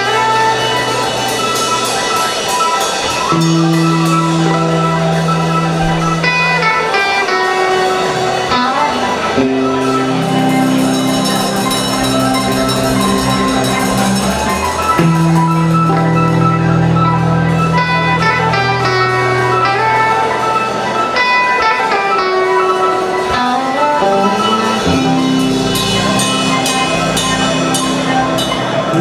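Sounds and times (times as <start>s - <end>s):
hammond organ chords: 0.0s - 29.0s.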